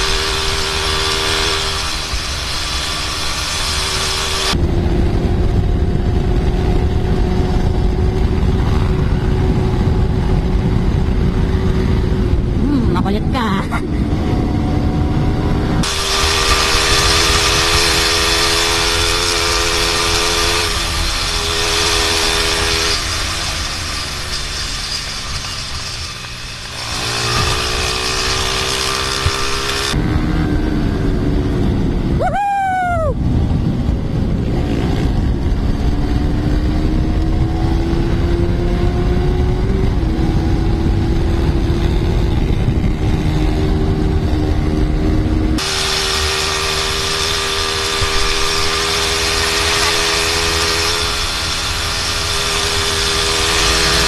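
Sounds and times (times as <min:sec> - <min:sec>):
motorcycle engine: 0:00.0 - 0:54.0
wind rush on microphone: 0:00.0 - 0:54.0.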